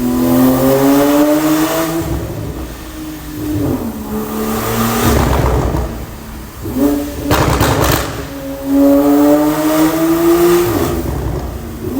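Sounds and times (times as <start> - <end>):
sports car engine revving: 0.0 - 11.9.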